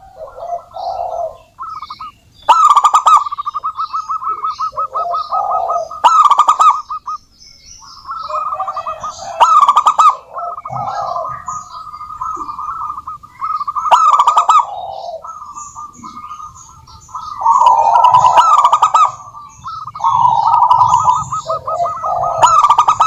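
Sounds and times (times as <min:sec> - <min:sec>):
doves cooing: 0:00.0 - 0:23.0
high bird chirps: 0:00.0 - 0:23.0.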